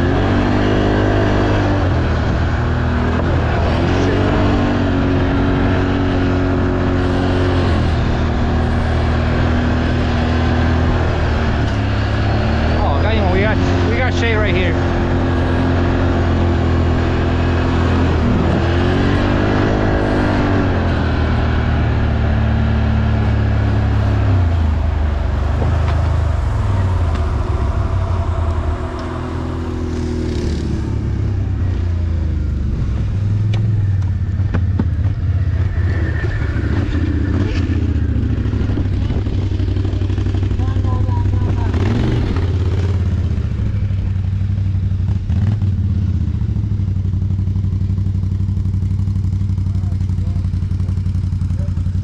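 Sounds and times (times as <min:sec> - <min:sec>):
atv engine revving: 0:00.0 - 0:52.0.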